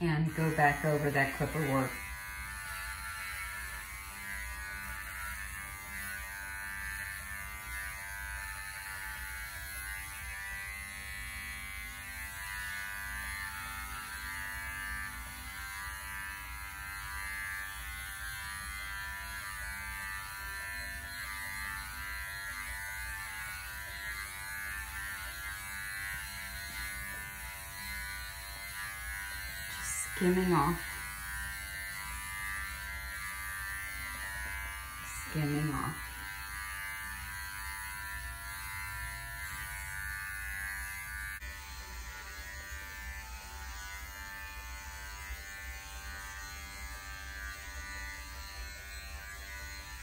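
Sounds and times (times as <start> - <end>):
electric clippers running: 0.0 - 50.0.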